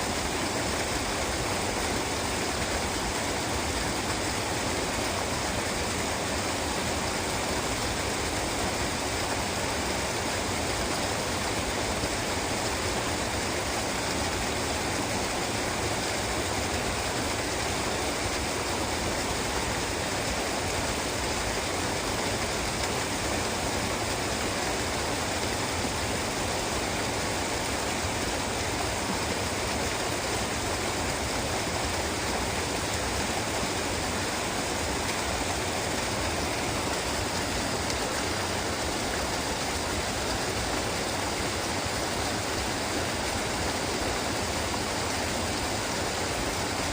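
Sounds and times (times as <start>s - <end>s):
waterfall roar: 0.0s - 46.9s.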